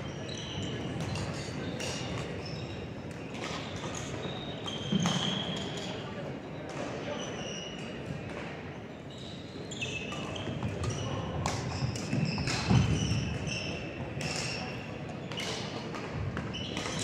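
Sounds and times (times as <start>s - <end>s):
shoes squeaking on gym floor: 0.0s - 17.0s.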